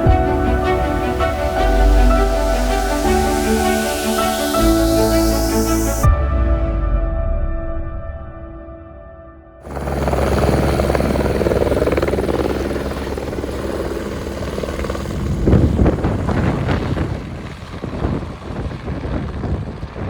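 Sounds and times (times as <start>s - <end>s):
helicopter engines and rotor: 0.1s - 6.1s, 9.6s - 20.0s.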